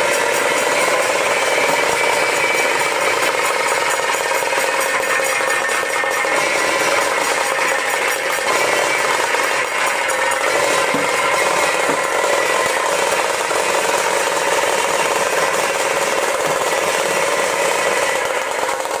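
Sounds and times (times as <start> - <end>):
drums beaten fast: 0.0 - 19.0.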